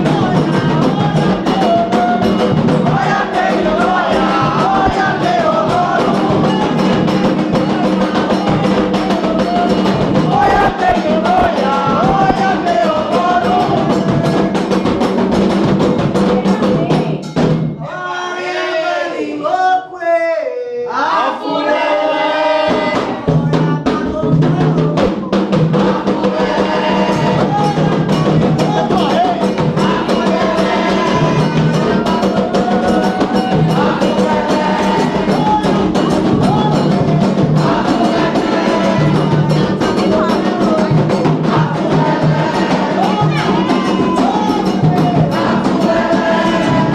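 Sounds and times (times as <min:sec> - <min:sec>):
hand drums fast rhythm: 0:00.0 - 0:17.8, 0:22.6 - 0:46.9
voices singing: 0:00.0 - 0:46.9.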